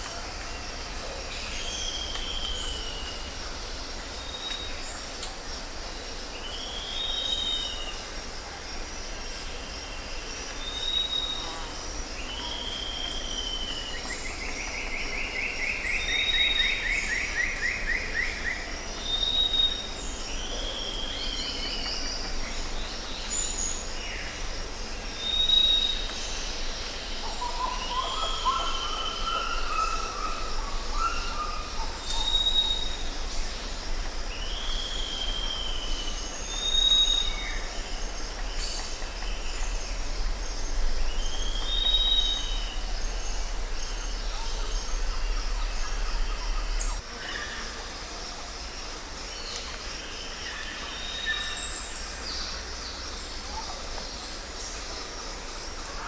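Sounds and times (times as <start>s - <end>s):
shrill insect chorus: 0.0s - 56.0s.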